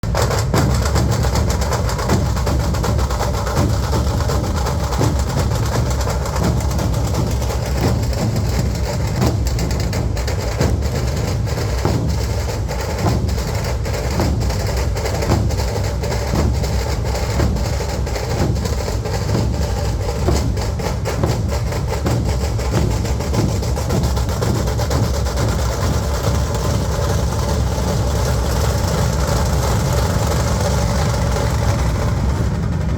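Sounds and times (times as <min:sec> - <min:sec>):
dhol drums beating: 0:00.0 - 0:32.9.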